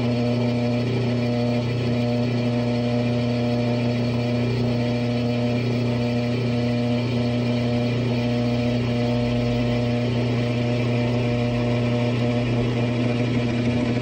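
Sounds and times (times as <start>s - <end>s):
drill press motor humming: 0.0s - 14.0s.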